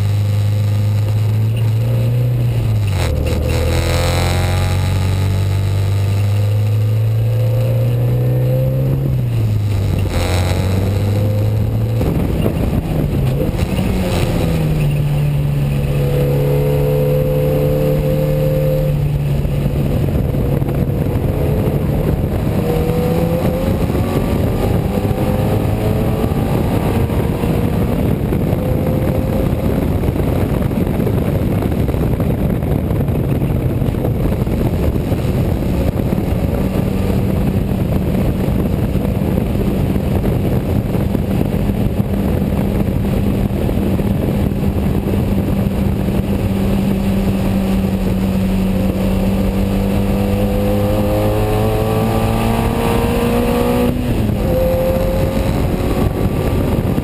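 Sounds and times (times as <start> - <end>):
race car engine: 0.0 - 57.0
road and wind noise: 0.0 - 57.0.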